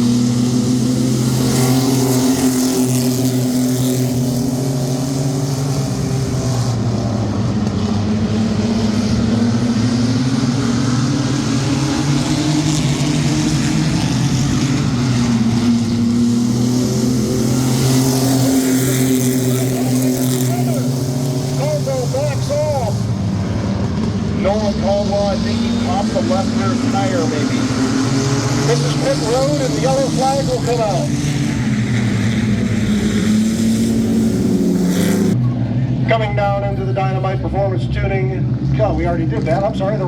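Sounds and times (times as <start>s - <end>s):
racing truck engines droning: 0.0s - 40.0s.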